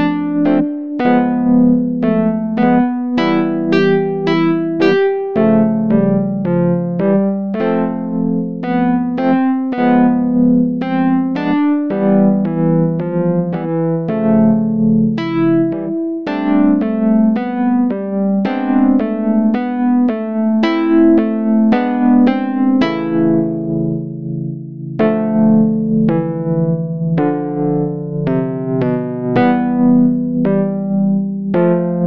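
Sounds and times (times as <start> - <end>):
slow piano melody: 0.0 - 32.0.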